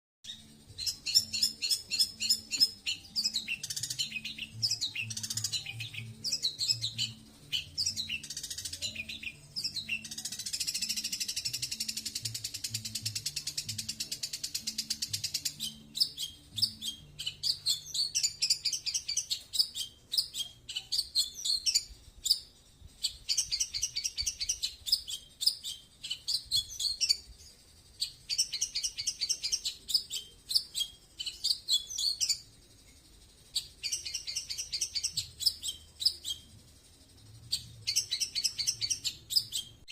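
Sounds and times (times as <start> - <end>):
bird chattering song: 0.2 - 39.9.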